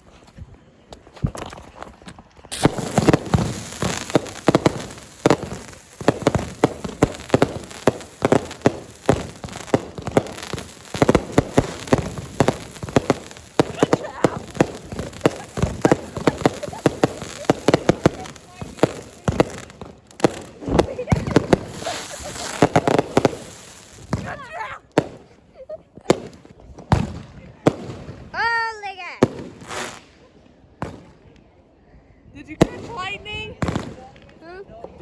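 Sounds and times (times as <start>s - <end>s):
fireworks popping and crackling: 0.0s - 25.4s, 26.0s - 28.3s, 29.2s - 31.4s, 32.6s - 35.0s.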